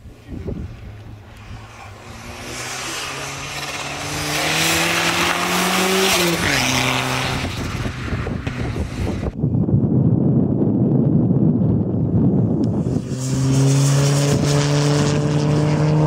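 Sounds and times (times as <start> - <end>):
rally car engine pulling hard: 0.3 - 9.4, 12.2 - 16.0.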